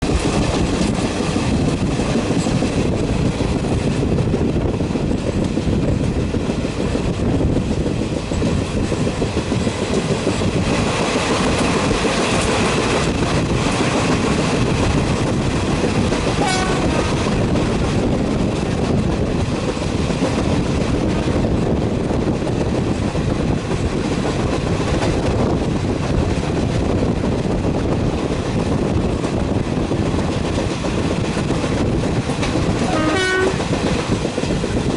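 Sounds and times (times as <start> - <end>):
clickety-clack over rail joints: 0.0 - 34.9
train wheels rumbling on rails: 0.0 - 34.9.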